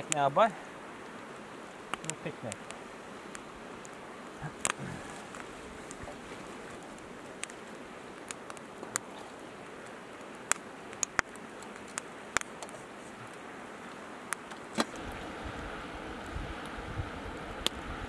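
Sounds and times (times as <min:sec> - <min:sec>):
river running over rocks: 0:00.0 - 0:18.0.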